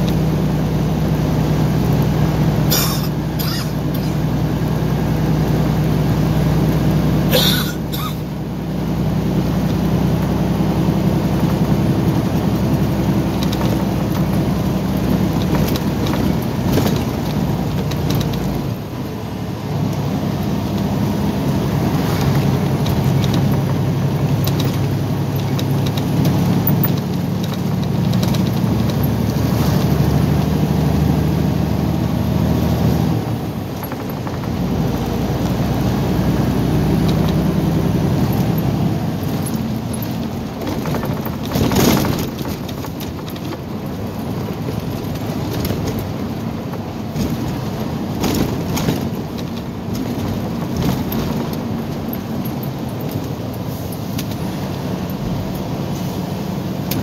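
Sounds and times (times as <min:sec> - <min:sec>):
road and tyre noise: 0:00.0 - 0:57.0
truck engine drone: 0:00.0 - 0:57.0.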